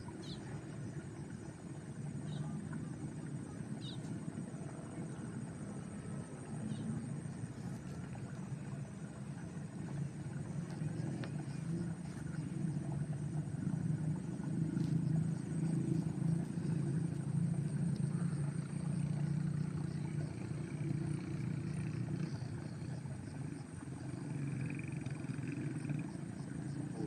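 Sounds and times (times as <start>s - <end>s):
small engine humming: 0.0s - 27.0s.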